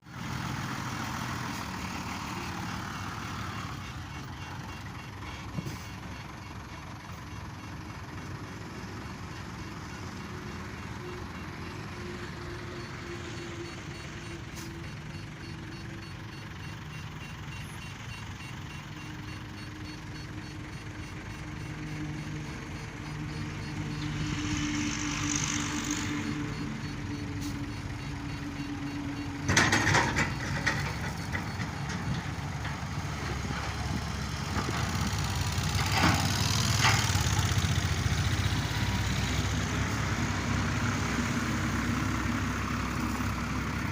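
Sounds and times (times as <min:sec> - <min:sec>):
heavy machinery diesel engine: 0:00.0 - 0:43.9.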